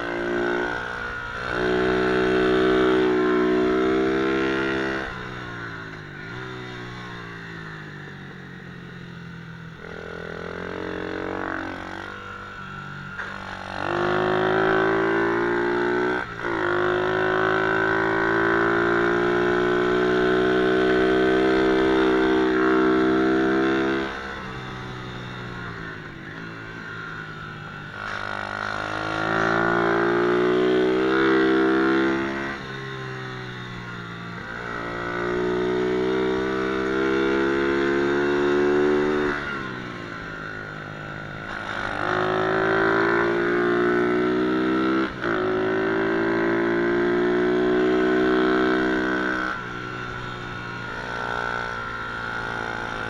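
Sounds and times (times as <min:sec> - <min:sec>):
pit bike engine revving: 0:09.7 - 0:53.0.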